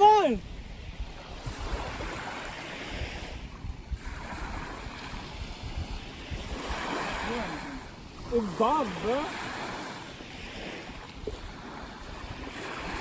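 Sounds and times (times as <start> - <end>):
small waves washing onto shore: 0.0 - 13.0
wind buffeting microphone: 0.0 - 13.0.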